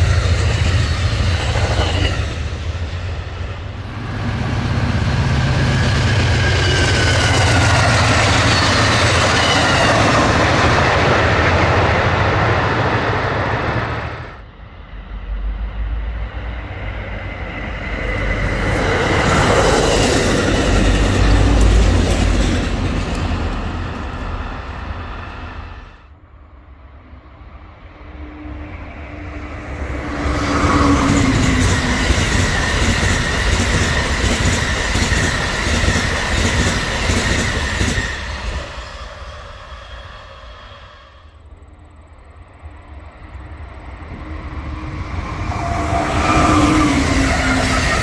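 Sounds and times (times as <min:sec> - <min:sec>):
train rumbling on rails: 0:00.0 - 0:48.0.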